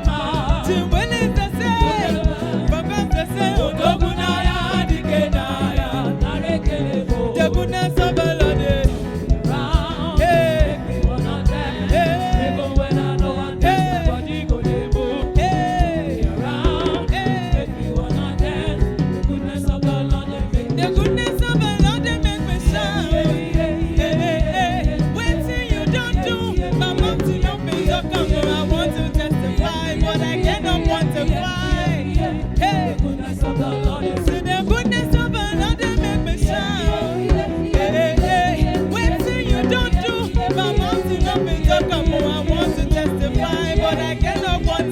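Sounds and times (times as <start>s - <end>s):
drums driving beat: 0.0s - 44.9s
gospel band and choir: 0.0s - 44.9s.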